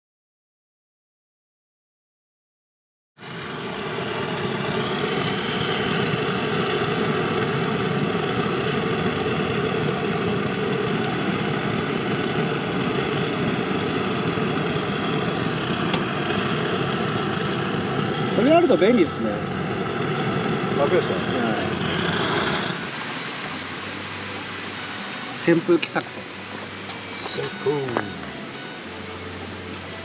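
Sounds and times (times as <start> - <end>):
small electric fan whirring: 3.2 - 30.0.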